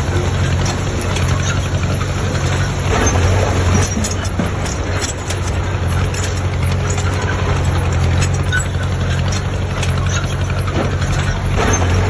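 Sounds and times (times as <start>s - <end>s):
heavy diesel engine running: 0.0s - 12.0s
light clicks and rattles: 0.0s - 12.0s.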